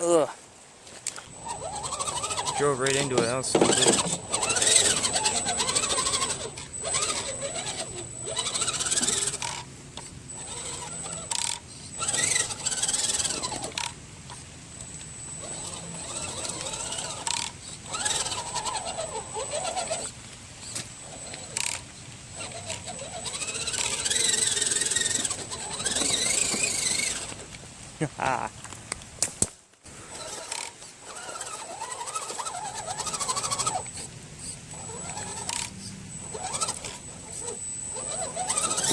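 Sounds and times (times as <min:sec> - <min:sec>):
thin steady high whine: 0:00.0 - 0:28.5, 0:29.9 - 0:38.9
toy car electric motor whining: 0:01.0 - 0:27.6, 0:29.9 - 0:38.9.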